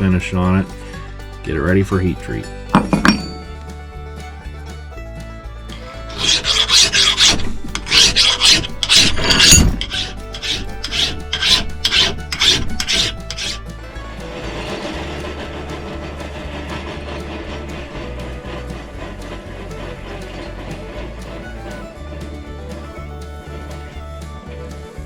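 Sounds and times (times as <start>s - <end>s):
hand file rasping on steel: 0.0s - 25.0s.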